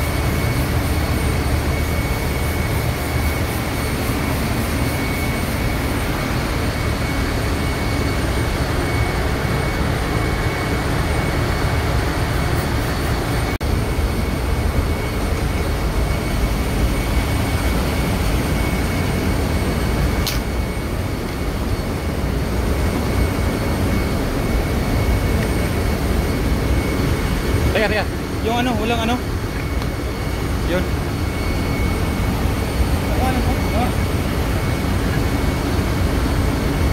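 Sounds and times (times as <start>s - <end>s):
engine room low rumble: 0.0s - 36.9s
faint high whine: 0.0s - 36.9s.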